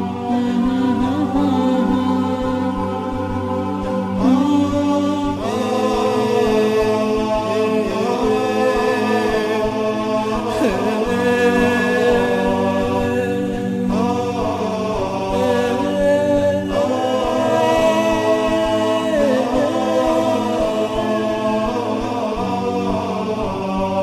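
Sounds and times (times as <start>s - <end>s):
voices chanting: 0.0s - 24.0s.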